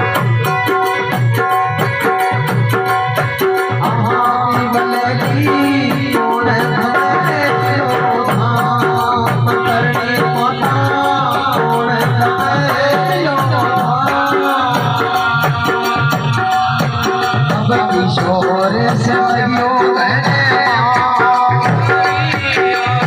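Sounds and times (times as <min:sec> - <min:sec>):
fast percussion with shaker rattle: 0:00.0 - 0:23.0.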